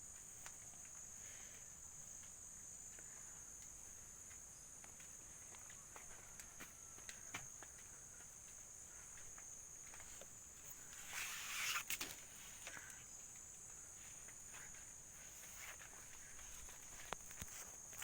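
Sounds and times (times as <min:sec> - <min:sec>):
insects chirping: 0:00.0 - 0:18.0
rustle of brushed plants: 0:00.0 - 0:18.0.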